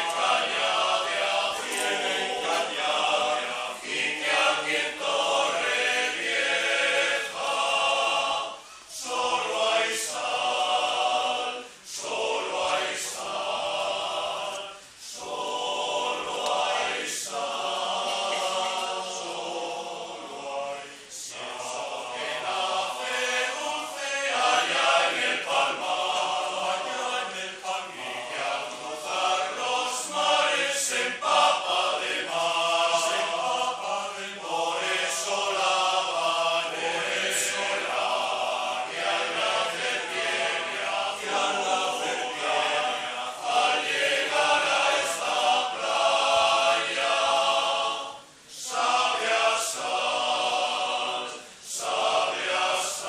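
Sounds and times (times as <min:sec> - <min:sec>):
men's choir singing a cappella: 0:00.0 - 0:53.0.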